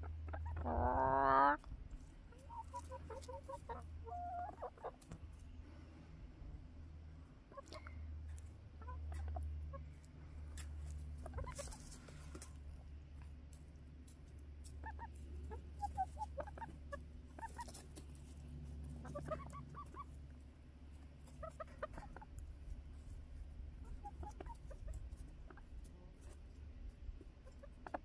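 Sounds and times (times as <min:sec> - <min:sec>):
hens clucking softly: 0:00.0 - 0:28.0.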